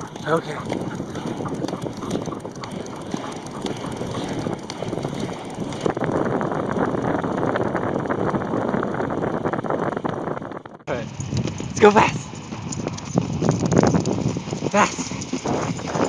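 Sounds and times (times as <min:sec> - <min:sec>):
inline skate wheels rolling: 0:00.0 - 0:16.0
wind buffeting microphone: 0:00.0 - 0:16.0.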